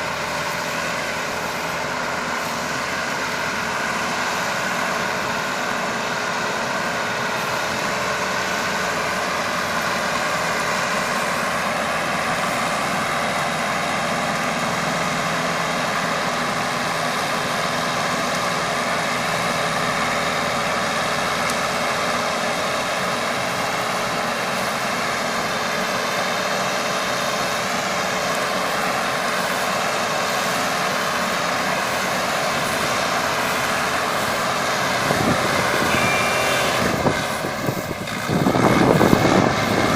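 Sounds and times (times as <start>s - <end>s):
hay baler engine and machinery: 0.0s - 39.9s.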